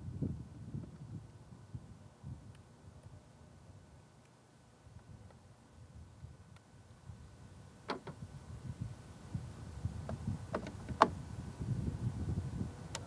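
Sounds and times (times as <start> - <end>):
wind rumble on microphone: 0.0 - 4.0, 4.8 - 13.0.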